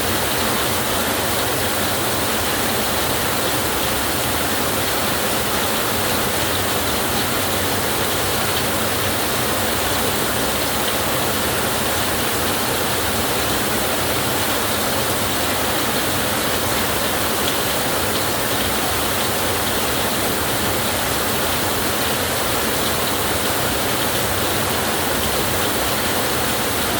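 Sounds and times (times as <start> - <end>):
heavy rain on a tin roof: 0.0 - 26.9.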